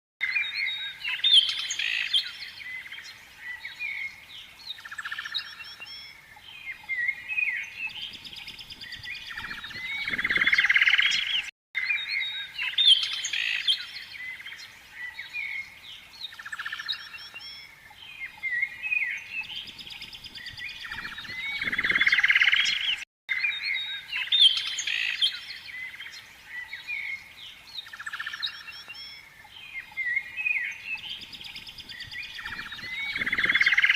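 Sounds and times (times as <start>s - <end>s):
birds chirping and singing: 0.2s - 33.9s.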